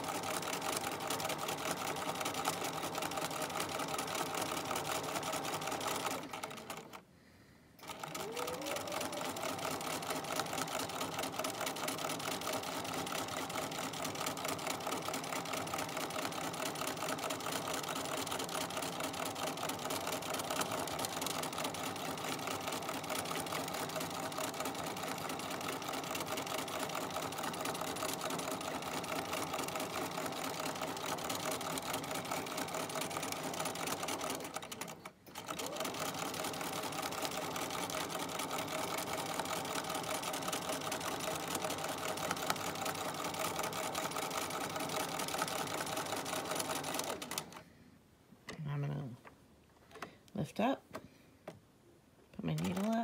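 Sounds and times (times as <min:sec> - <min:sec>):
sewing machine running fast: 0:00.0 - 0:07.0, 0:07.8 - 0:47.6, 0:52.6 - 0:53.0.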